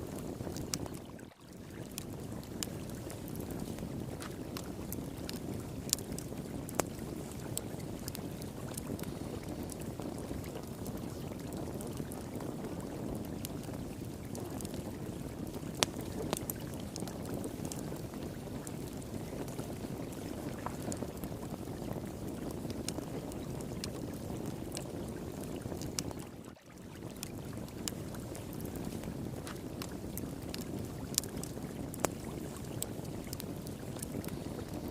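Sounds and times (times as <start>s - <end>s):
flowing water: 0.0s - 34.9s
wood fire crackling: 0.0s - 34.9s.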